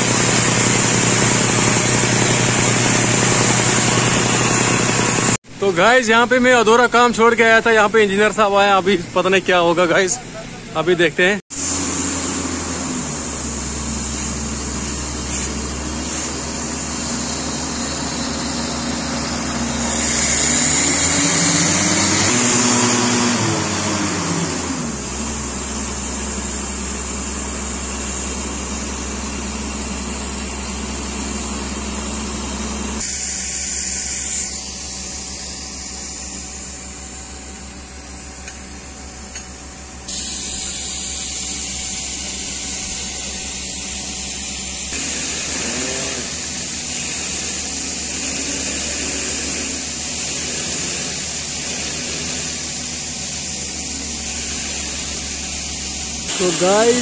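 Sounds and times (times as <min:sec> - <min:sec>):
rock drilling rig boring: 0:00.0 - 0:57.0.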